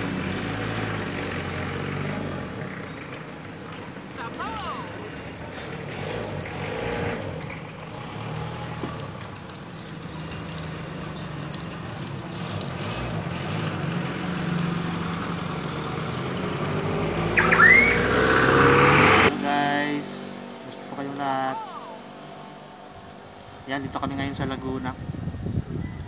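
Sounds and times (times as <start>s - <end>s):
vehicle engines passing: 0.0s - 25.8s.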